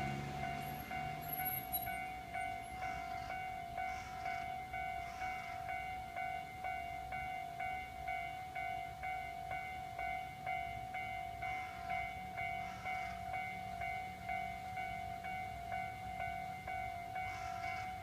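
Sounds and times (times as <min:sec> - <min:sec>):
level-crossing alarm bell ringing: 0:00.0 - 0:18.0.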